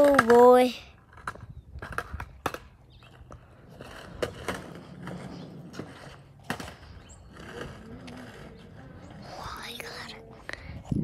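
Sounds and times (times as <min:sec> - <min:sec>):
skateboard clacks: 0:00.0 - 0:09.2
skateboard wheels rolling on pavement: 0:00.0 - 0:11.0.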